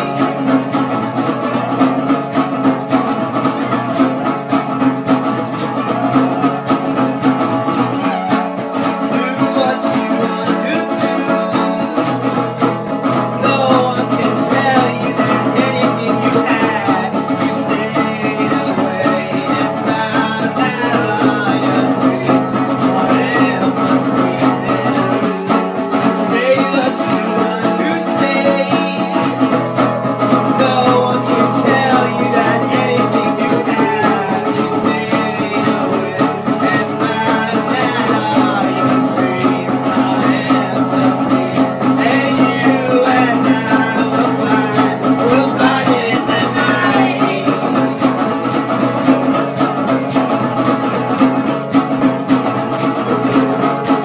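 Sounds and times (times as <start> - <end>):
resonator guitar strummed: 0.0 - 54.0.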